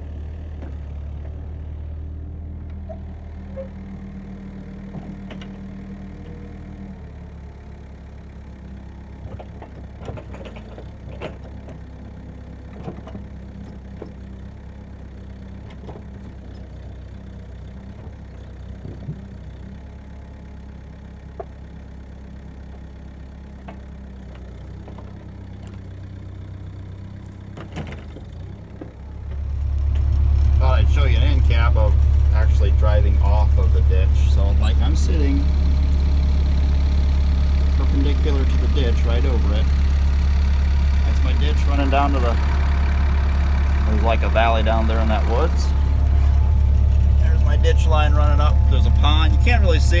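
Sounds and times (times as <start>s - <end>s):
excavator engine running: 0.0s - 50.0s.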